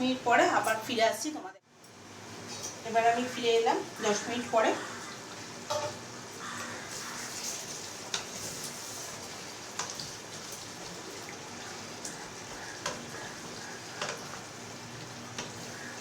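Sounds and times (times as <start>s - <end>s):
curry sizzling in a pan: 2.0s - 16.0s.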